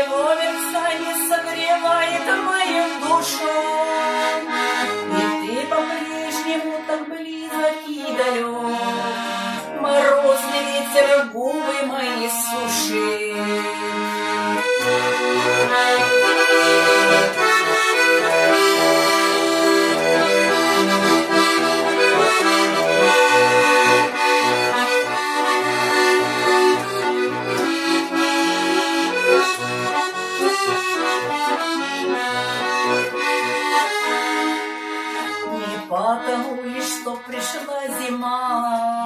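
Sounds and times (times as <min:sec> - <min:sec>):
button accordion playing: 0:00.0 - 0:39.0.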